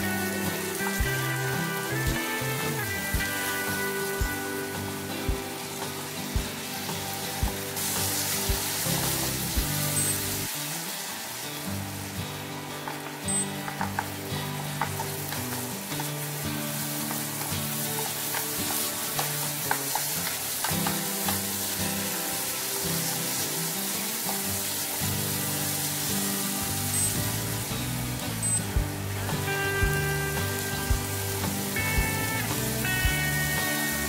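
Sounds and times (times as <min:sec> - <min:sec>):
food sizzling in frying pan: 0:00.0 - 0:34.0.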